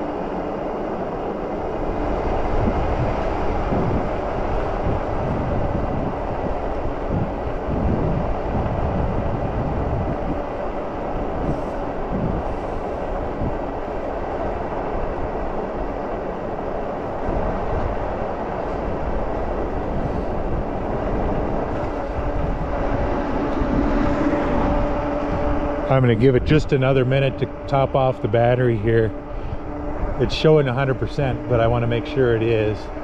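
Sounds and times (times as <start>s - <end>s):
faint high whine: 0.0s - 33.0s
tyre road rumble: 0.0s - 33.0s
wind buffeting the microphone: 0.0s - 33.0s.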